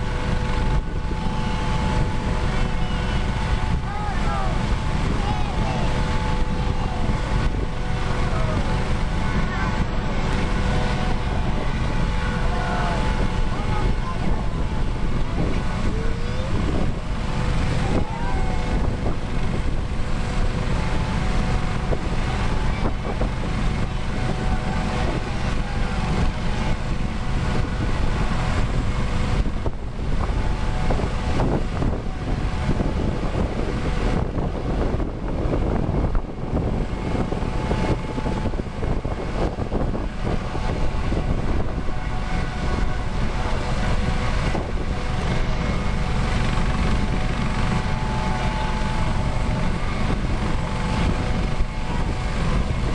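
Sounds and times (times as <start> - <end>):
helicopter turbine engines running: 0.0 - 52.9.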